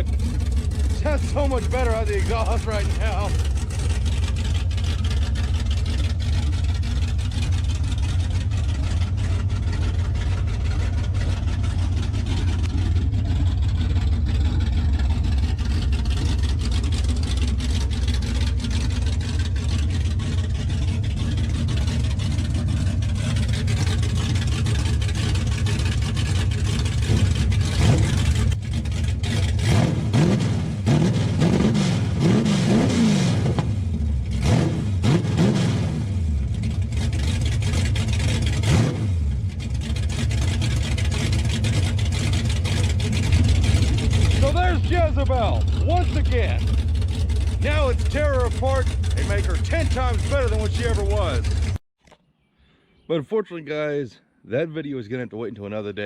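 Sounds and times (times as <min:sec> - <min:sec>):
engine idling and revving: 0:00.0 - 0:51.8.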